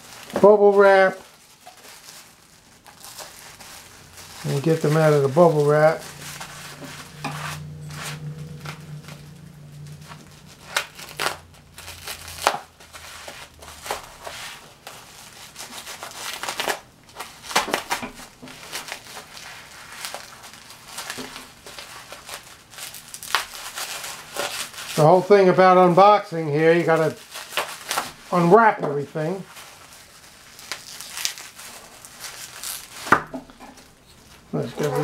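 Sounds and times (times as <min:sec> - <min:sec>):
bubble wrap crinkling: 0:00.0 - 0:35.0.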